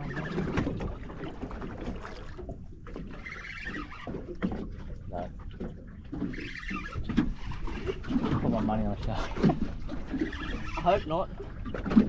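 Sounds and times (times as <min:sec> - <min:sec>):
boat engine low rumble: 0:00.0 - 0:12.0
water sloshing against hull: 0:00.0 - 0:12.0.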